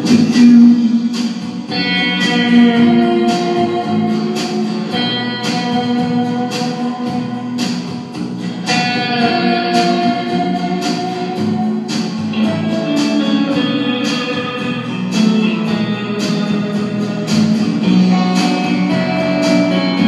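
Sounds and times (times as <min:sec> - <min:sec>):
guitar background music: 0:00.0 - 0:20.0.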